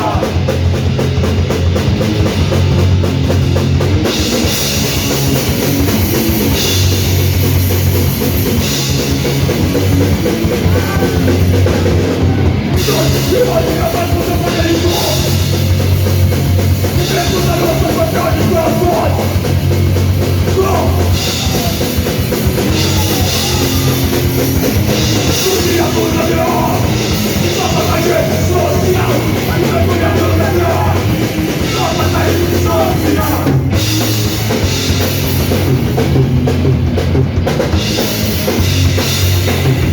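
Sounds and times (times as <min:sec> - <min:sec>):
punk band playing live: 0:00.0 - 0:39.9.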